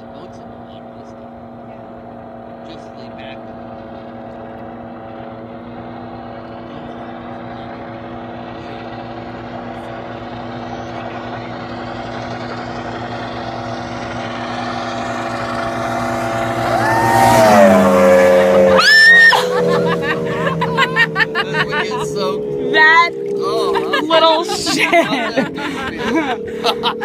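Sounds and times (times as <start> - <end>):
speedboat engine passing: 0.0 - 27.0.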